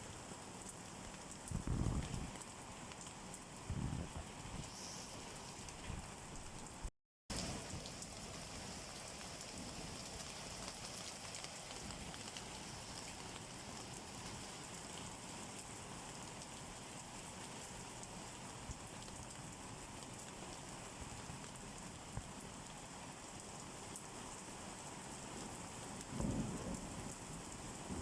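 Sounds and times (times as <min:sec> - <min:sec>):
rain falling on a surface: 0:00.0 - 0:28.0.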